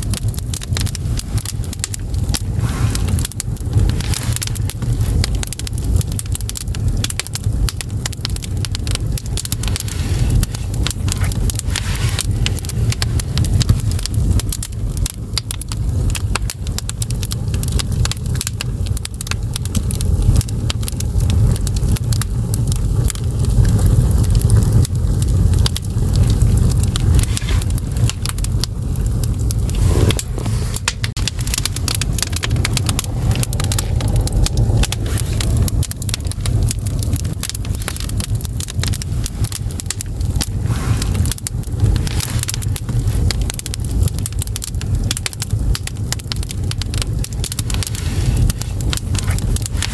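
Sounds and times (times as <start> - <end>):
firewood crackling and popping: 0.0 - 49.9
steady low rumble: 0.0 - 49.9.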